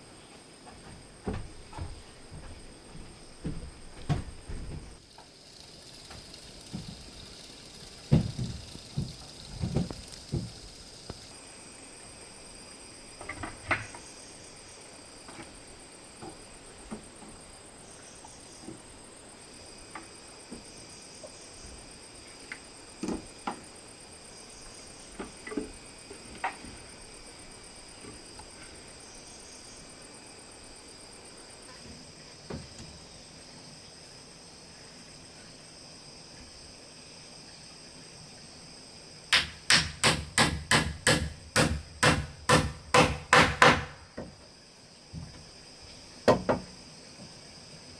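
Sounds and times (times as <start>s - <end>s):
crickets chirring: 0.0s - 47.9s.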